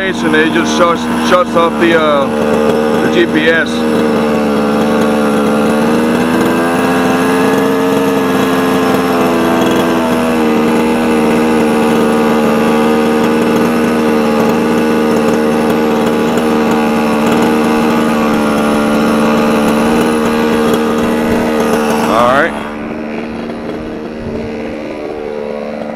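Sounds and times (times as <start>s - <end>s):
two-stroke engine running: 0.0s - 25.9s.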